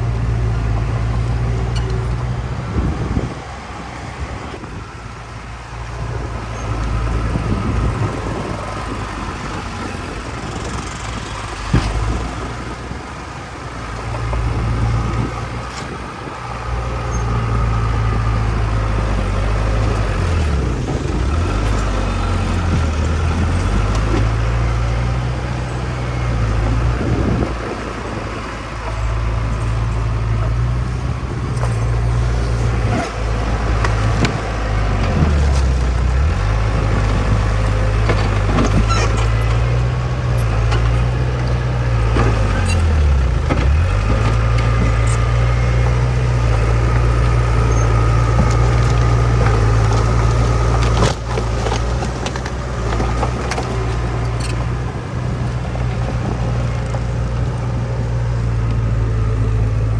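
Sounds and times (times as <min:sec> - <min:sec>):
bulldozer diesel engine revving: 0:00.0 - 0:59.9.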